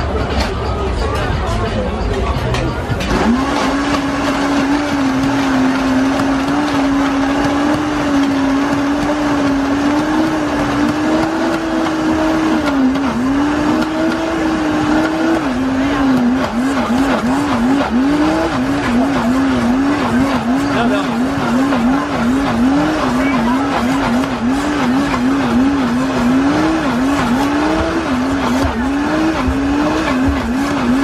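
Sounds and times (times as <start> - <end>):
blender motor whining: 3.1 - 31.0.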